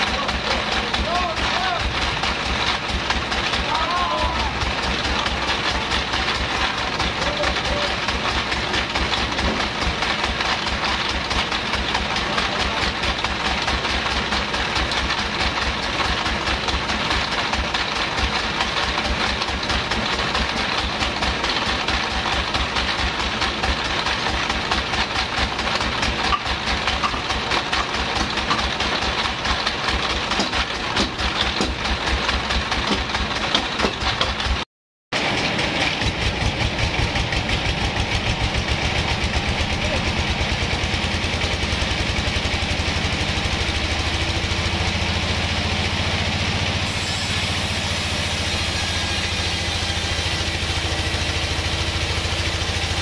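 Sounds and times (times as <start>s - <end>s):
bandsaw mill machinery running: 0.0s - 53.0s.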